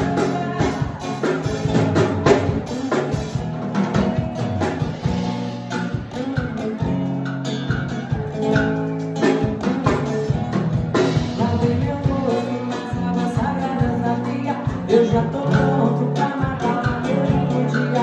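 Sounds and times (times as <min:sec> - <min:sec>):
bass guitar: 0:00.0 - 0:18.0
drum kit steady beat: 0:00.0 - 0:18.0
electric guitar: 0:00.0 - 0:18.0.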